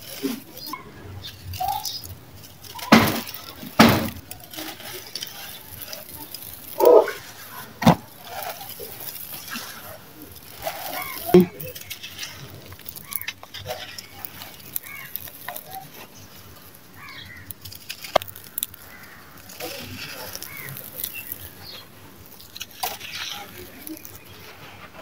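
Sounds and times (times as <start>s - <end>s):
hands crumbling dry dirt: 0.0s - 25.0s.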